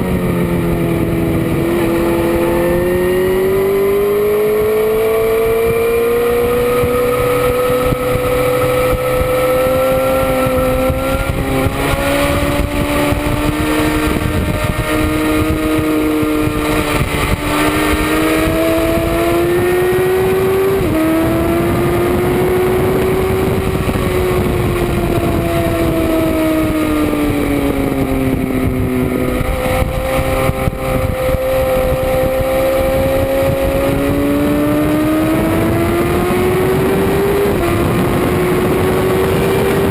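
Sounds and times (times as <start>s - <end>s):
motorcycle engine racing: 0.0s - 39.9s
wind rush: 0.0s - 39.9s.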